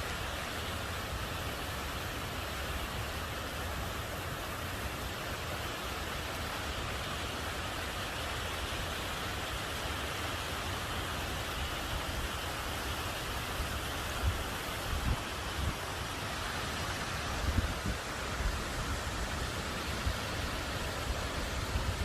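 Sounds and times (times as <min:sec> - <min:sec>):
heavy rain: 0:00.0 - 0:22.0
rushing water: 0:00.0 - 0:22.0.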